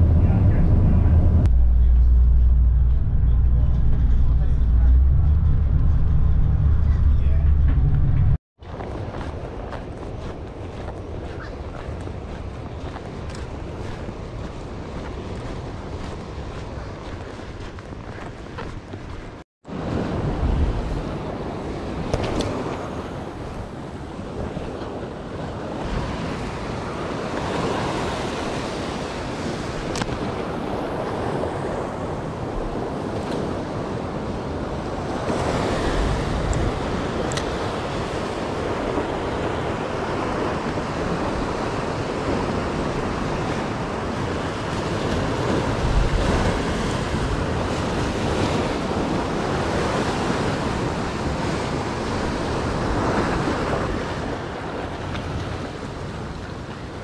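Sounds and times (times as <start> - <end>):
ocean surf against rocks: 0.0 - 57.0
wind buffeting microphone: 0.0 - 57.0.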